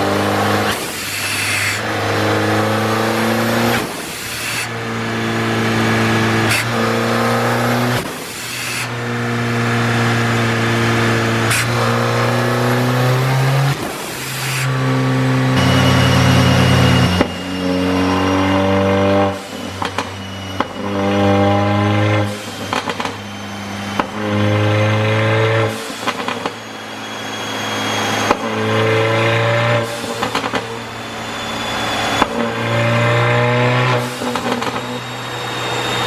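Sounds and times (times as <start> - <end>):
car engine running hard: 0.0 - 36.0.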